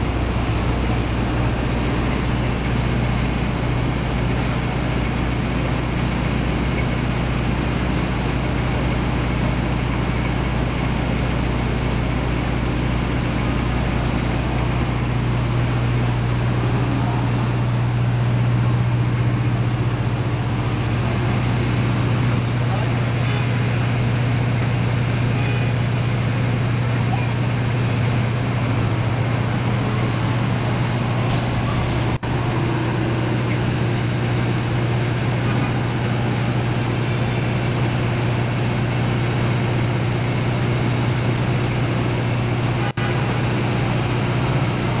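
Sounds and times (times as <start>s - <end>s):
city street traffic: 0.0s - 45.0s.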